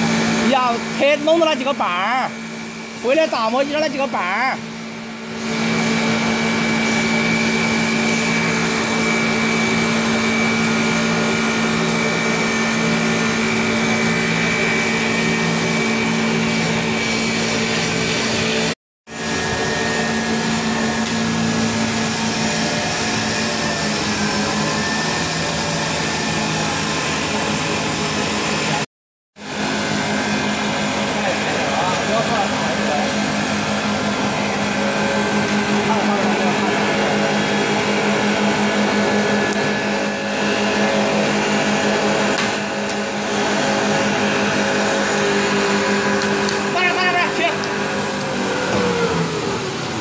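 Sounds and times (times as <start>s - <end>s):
wood lathe humming: 0.0s - 28.8s, 29.4s - 50.0s.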